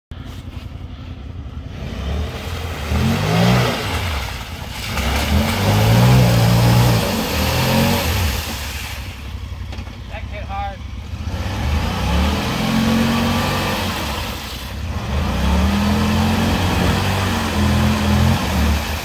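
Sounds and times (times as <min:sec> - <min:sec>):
engine revving: 0:01.7 - 0:09.2, 0:10.2 - 0:19.0
mud and water splashing: 0:01.7 - 0:10.3, 0:11.0 - 0:19.0.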